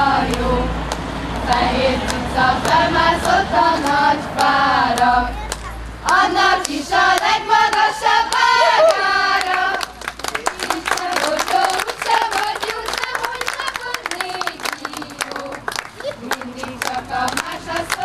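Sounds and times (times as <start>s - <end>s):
group singing a folk song: 0.0s - 5.4s, 6.0s - 18.0s
hand clapping: 0.3s - 18.0s.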